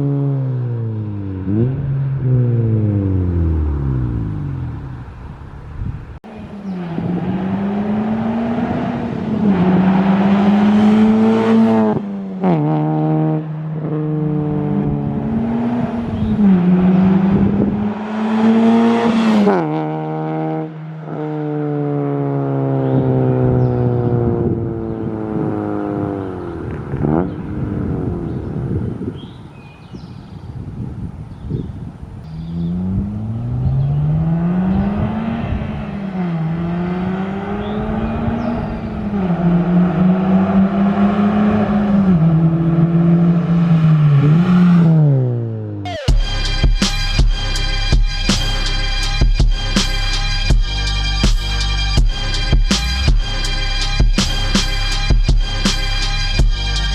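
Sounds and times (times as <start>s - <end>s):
car exhaust accelerating through gears: 0.0s - 29.4s, 32.3s - 56.9s.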